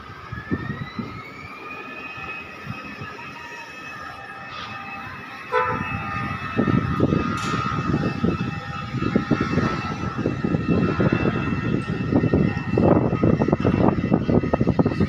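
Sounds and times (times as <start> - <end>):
crane whining under load: 0.0 - 15.0
wind buffeting microphone: 0.0 - 15.0.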